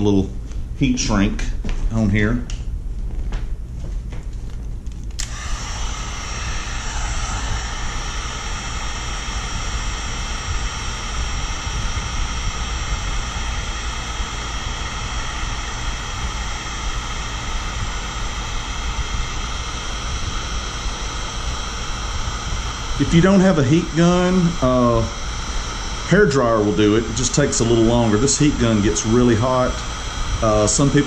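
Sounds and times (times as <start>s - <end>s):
heat gun whining: 4.6s - 31.0s.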